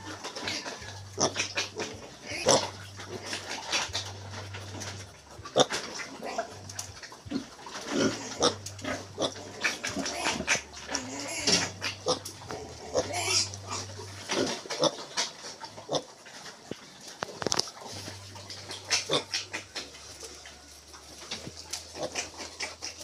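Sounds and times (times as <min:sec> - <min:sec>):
piglets grunting and squealing: 0:00.0 - 0:23.0.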